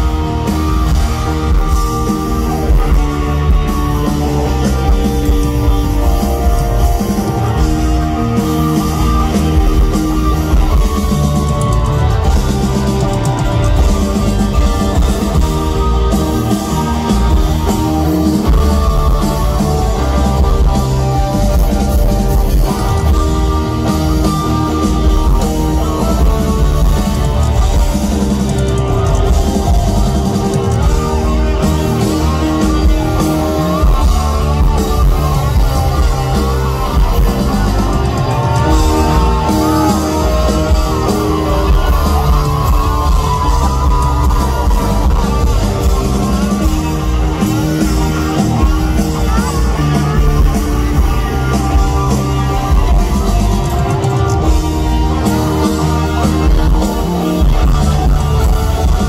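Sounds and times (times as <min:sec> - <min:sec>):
bending electric guitar lead: 0:00.0 - 0:59.0
live rock band playing: 0:00.0 - 0:59.0.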